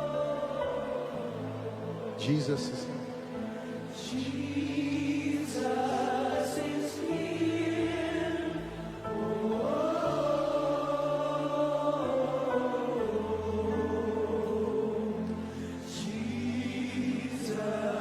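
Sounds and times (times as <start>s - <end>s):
voices singing held notes: 0.0s - 18.0s.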